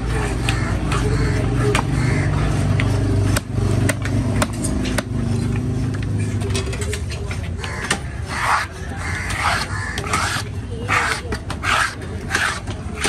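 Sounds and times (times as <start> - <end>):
steady engine hum: 0.0 - 13.0.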